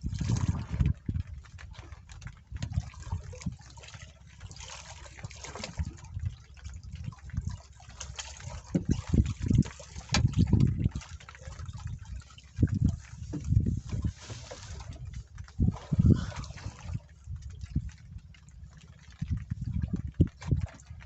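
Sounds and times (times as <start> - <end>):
wind buffeting microphone: 0.0 - 3.7, 5.6 - 7.7, 8.5 - 21.0
water splashing and gushing: 0.0 - 21.0.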